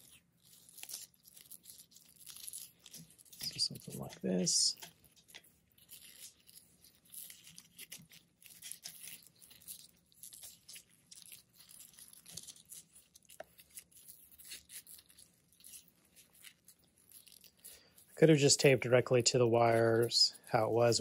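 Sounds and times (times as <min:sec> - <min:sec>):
tape unwinding with crackles: 0:00.0 - 0:21.0.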